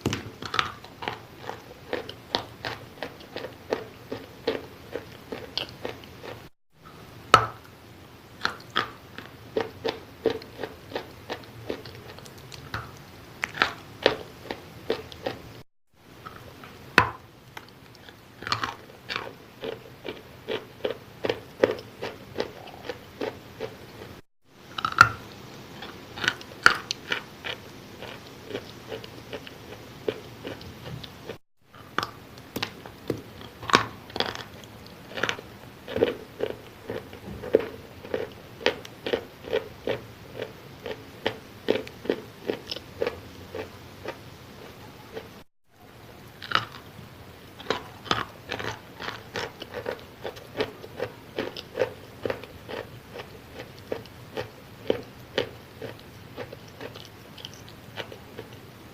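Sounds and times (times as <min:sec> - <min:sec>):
person chewing crunchy chalk: 0:00.4 - 0:06.6, 0:08.4 - 0:15.6, 0:16.2 - 0:45.4, 0:46.4 - 0:46.9, 0:47.5 - 0:58.7.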